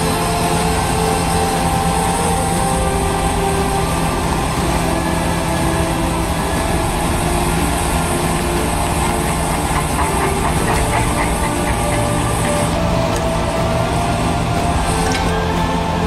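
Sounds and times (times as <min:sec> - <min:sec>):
excavator engine running: 0:00.0 - 0:16.0
stump planer grinding stump: 0:00.0 - 0:16.0.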